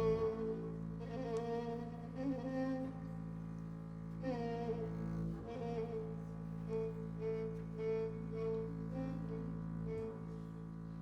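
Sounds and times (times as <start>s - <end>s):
violin melody: 0.0s - 10.6s.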